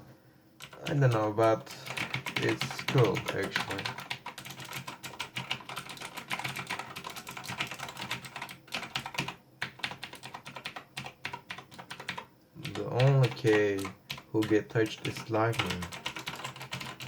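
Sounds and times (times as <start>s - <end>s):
mechanical keyboard typing: 0.6s - 17.0s.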